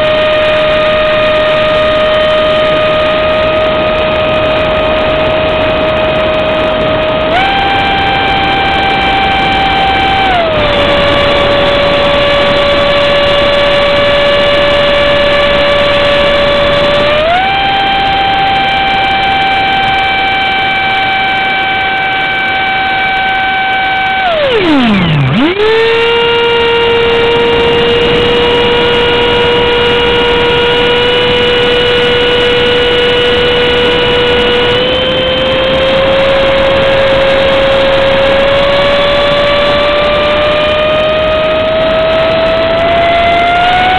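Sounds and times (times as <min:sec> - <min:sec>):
electric motor whine: 0:00.0 - 0:43.9.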